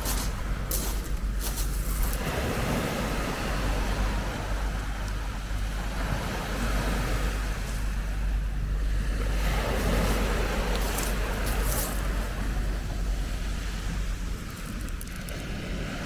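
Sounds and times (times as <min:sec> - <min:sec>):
sea wash with low rumble: 0:00.0 - 0:16.0.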